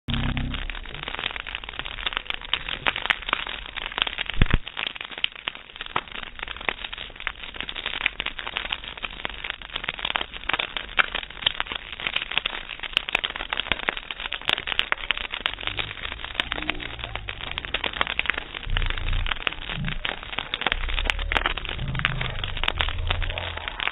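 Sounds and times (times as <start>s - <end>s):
campfire crackling: 0.0s - 23.9s.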